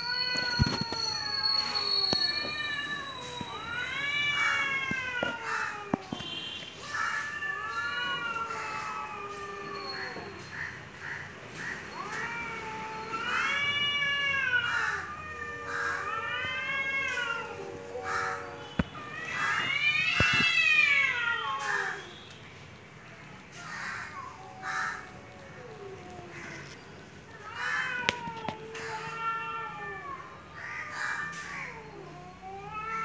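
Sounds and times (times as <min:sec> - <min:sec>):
cats yowling: 0:00.0 - 0:22.2, 0:23.3 - 0:33.0.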